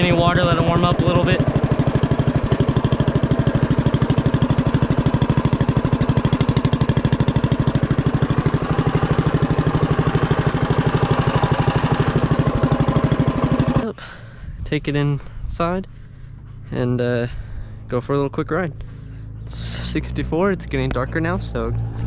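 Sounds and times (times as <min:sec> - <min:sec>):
small engine running: 0:00.0 - 0:14.2, 0:15.8 - 0:22.0.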